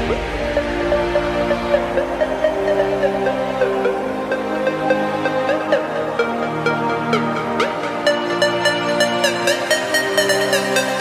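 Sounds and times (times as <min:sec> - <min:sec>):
electronic synth music: 0:00.0 - 0:11.0.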